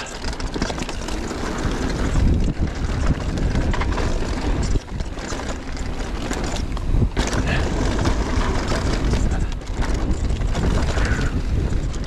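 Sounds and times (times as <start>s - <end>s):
bike tyres and frame clattering: 0.0s - 12.0s
wind rushing over microphone: 0.0s - 12.0s.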